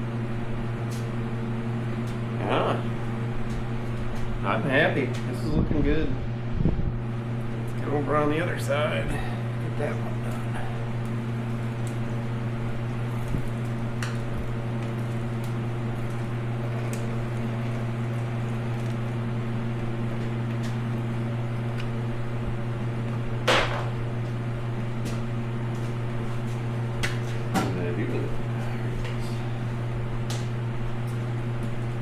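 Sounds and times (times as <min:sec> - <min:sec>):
low mechanical machine hum: 0:00.0 - 0:32.0.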